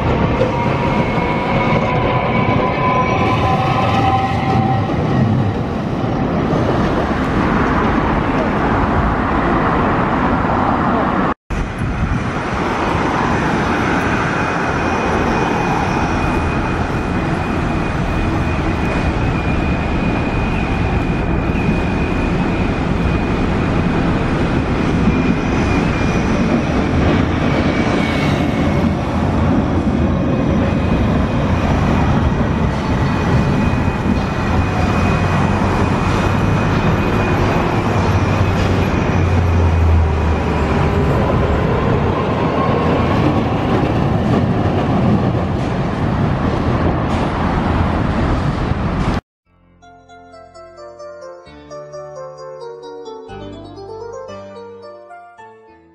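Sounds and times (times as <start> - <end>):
cars and buses running: 0.0 - 49.2
tram passing: 0.0 - 49.2, 50.2 - 55.5.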